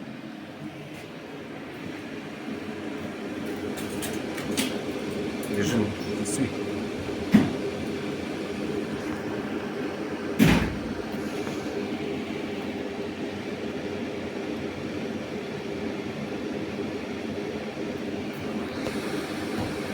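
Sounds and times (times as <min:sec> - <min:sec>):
steady machine hum: 0:00.0 - 0:19.9.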